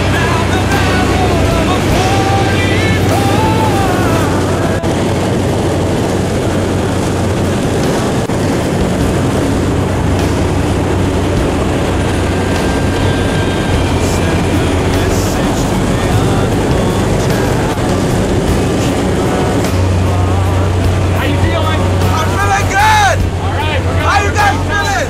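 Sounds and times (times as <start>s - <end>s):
propeller plane engine drone: 0.0s - 25.0s
rushing air: 0.0s - 25.0s.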